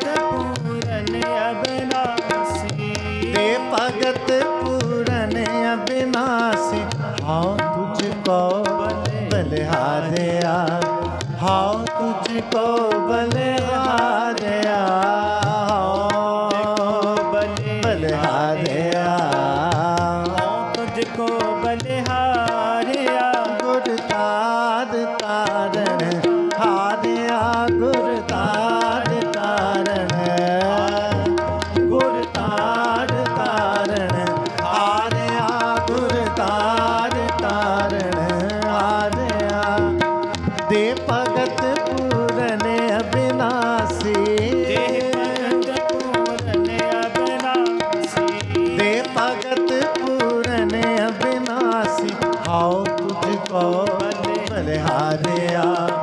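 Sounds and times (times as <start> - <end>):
harmonium melody: 0.0 - 56.0
tabla rhythm: 0.0 - 56.0.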